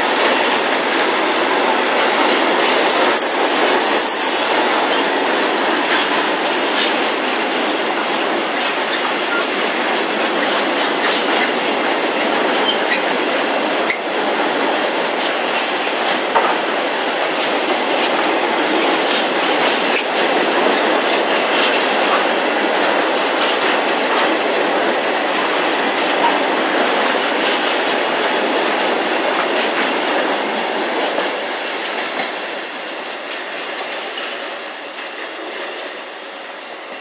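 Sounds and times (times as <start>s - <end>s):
wheels clicking over track: 0.0s - 35.9s
train wheels rushing on rails: 0.0s - 37.0s.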